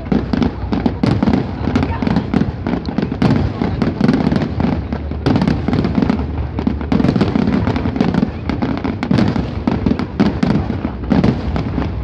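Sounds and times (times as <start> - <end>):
continuous low rumble: 0.0 - 12.0
fireworks bursts and crackles: 0.0 - 12.0.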